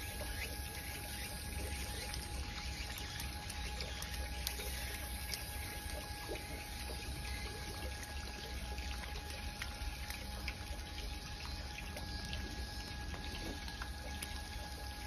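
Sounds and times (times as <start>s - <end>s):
faint steady hum: 0.0s - 15.0s
running water trickling: 0.0s - 15.0s.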